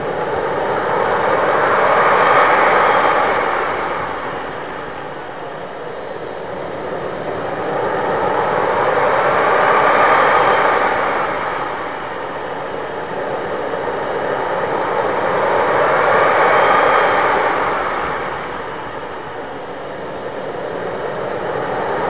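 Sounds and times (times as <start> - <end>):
model jet engine rushing: 0.0 - 22.0.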